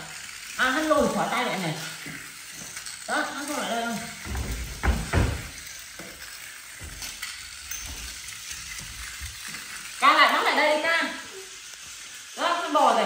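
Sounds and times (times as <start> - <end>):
toy snake rattling hiss: 0.0 - 13.0.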